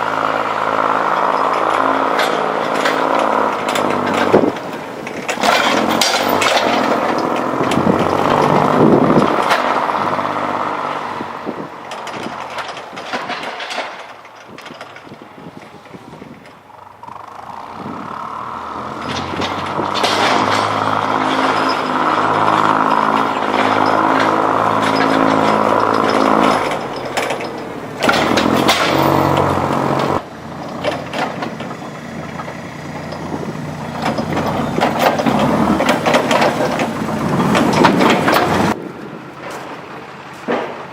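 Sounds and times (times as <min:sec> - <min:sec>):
forklift engine running: 0:00.0 - 0:40.9
snowplow clattering and scraping: 0:00.0 - 0:40.9.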